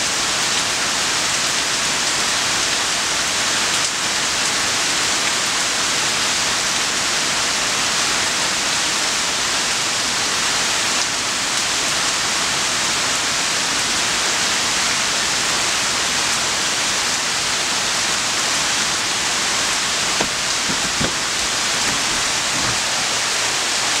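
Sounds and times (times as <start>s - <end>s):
heavy rain on trees: 0.0s - 24.0s.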